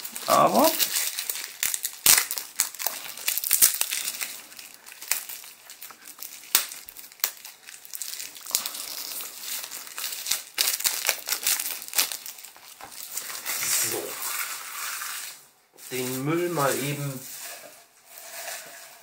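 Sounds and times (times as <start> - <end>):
plastic shrink-wrap crinkling: 0.0 - 19.0.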